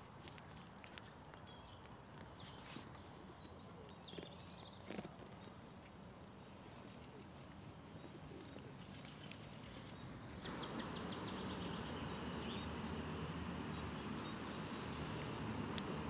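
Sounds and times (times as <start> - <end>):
low hum of city noise: 0.0 - 16.0
small birds chirping: 0.0 - 16.0.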